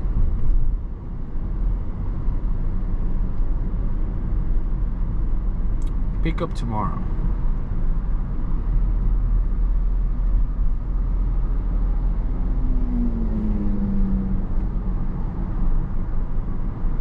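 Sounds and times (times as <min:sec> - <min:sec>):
car cabin engine and road rumble: 0:00.0 - 0:17.0.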